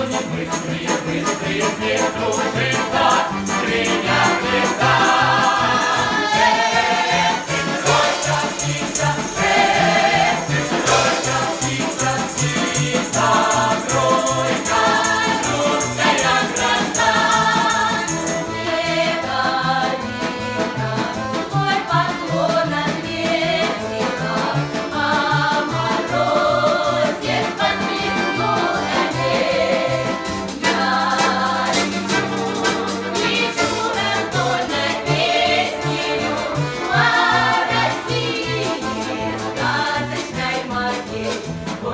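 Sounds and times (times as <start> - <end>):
jingling percussion: 0.0 - 21.4, 23.2 - 41.9
folk ensemble singing in chorus: 0.0 - 41.9
instrumental accompaniment: 0.0 - 41.9.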